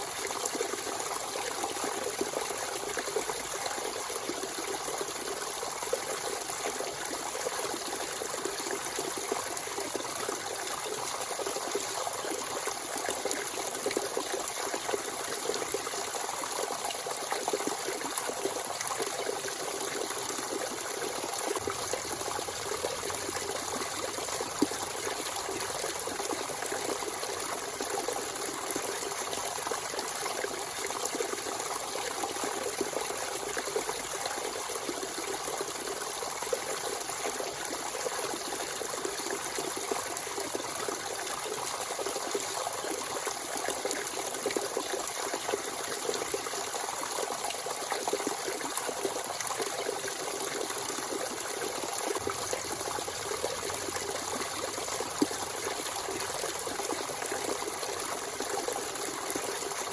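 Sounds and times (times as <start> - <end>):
spring water flowing and trickling: 0.0 - 59.9.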